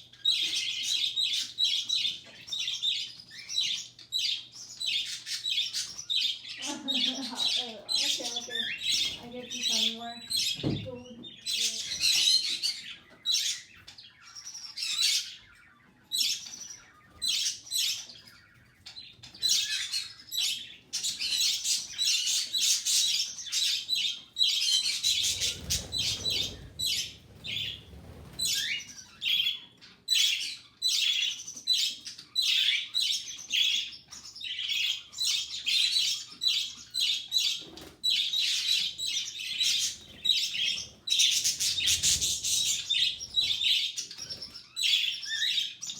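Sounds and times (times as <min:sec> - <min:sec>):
bird chick chirping: 0:00.0 - 0:45.9.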